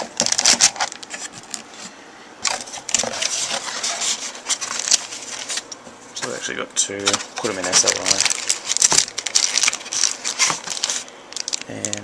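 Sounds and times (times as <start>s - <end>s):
plastic bag crinkling: 0.0s - 1.7s, 2.4s - 5.7s, 7.0s - 12.0s.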